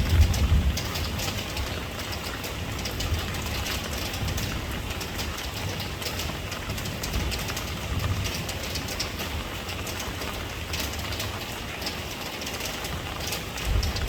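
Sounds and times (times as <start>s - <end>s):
rain drops ticking: 0.0s - 14.0s.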